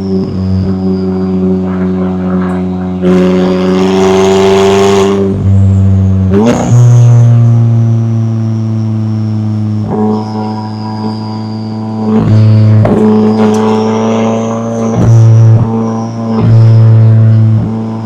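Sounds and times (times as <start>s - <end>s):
car exhaust droning: 0.0s - 18.0s.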